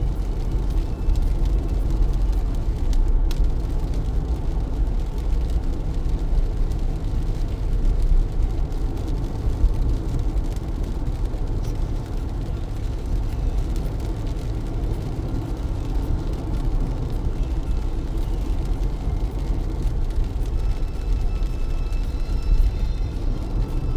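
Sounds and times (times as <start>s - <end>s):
rain hissing: 0.0s - 23.9s
tyres and engine rumble: 0.0s - 23.9s.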